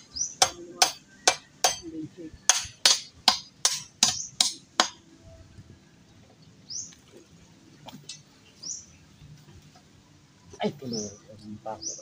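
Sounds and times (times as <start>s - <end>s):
bird chirping: 0.0s - 2.7s, 4.0s - 12.0s.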